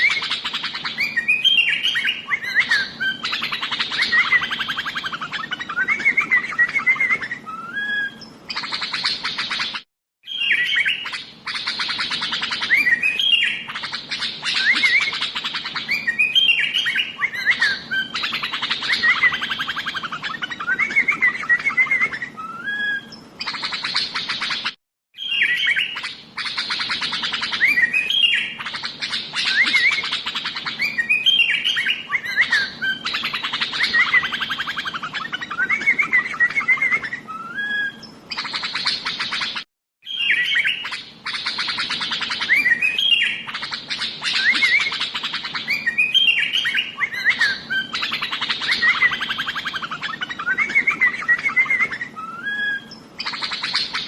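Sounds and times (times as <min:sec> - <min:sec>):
bulbul chattering and singing: 0:00.0 - 0:54.0.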